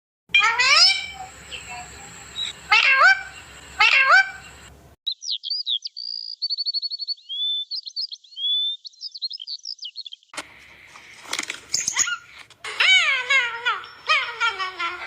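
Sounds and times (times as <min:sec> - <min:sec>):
small bird singing: 0:00.4 - 0:10.4, 0:11.7 - 0:15.0.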